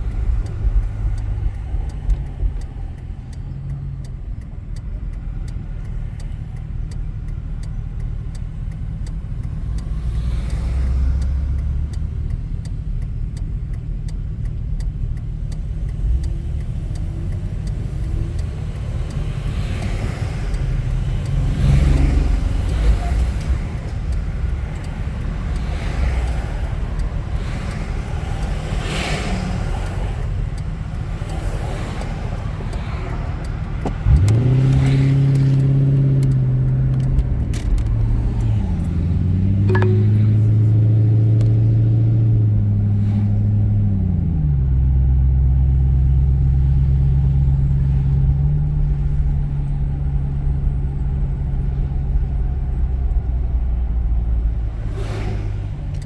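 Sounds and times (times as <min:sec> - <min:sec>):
car engine droning exhaust: 0:00.0 - 0:56.0.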